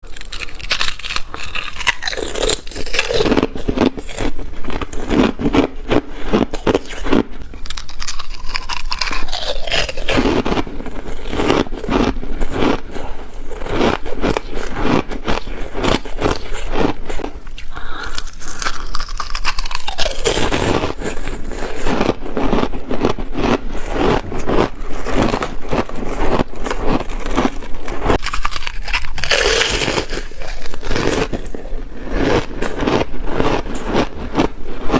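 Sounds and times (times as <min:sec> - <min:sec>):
ice being crunched and chewed: 0:00.0 - 0:34.9.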